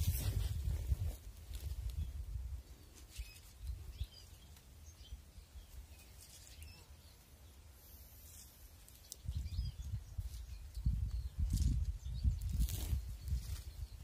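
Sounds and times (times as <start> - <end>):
small birds chirping faintly: 1.0 - 14.0.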